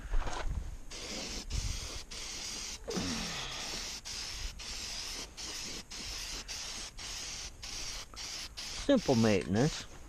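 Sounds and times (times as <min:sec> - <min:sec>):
spray paint can hissing: 0:00.9 - 0:09.8.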